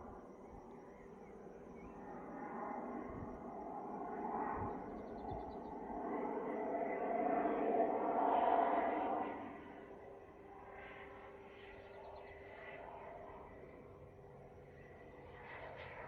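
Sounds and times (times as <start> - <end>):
propeller plane engine: 2.7 - 16.0.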